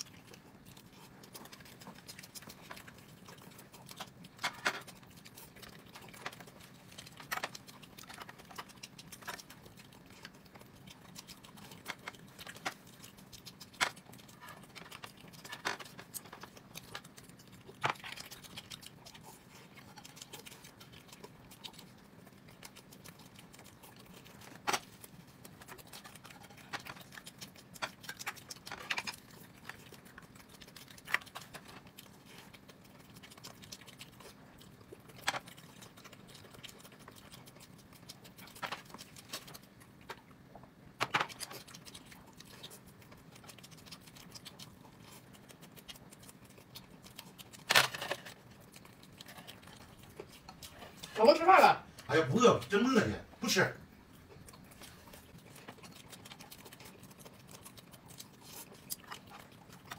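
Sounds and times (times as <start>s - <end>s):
mouth clicks of chewing: 0.0s - 51.2s, 54.0s - 59.9s.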